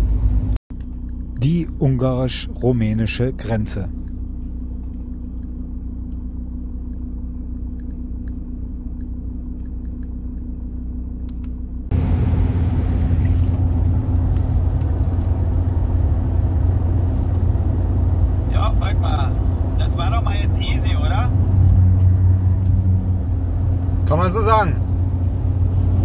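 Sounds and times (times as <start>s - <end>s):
car engine idling: 0.0s - 25.8s
engine and tyres rumbling: 0.0s - 26.0s.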